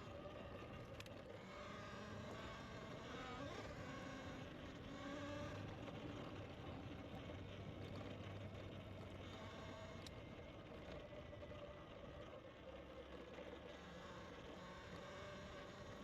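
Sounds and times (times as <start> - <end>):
faint wavering humming tones: 0.0 - 16.0.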